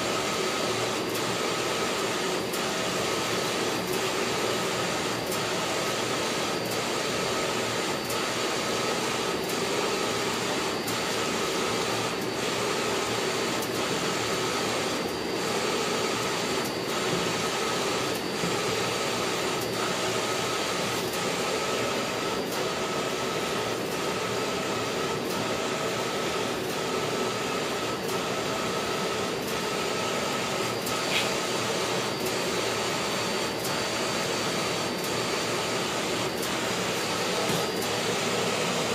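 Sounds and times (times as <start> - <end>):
printer carriage whirring: 0.0 - 38.9.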